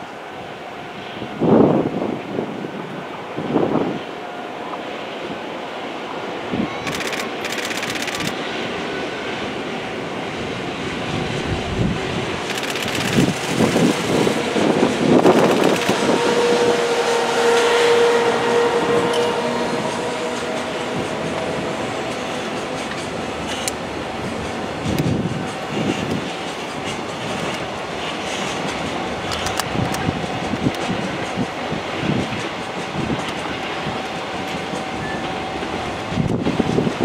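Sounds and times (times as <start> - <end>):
locomotive whine: 0.0 - 37.0
wheels rumbling on rail: 0.0 - 37.0.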